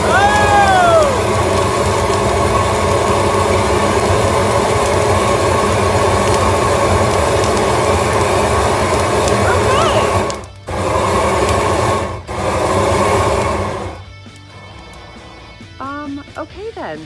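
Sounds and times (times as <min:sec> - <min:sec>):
propane torch flame blasting: 0:00.0 - 0:16.5.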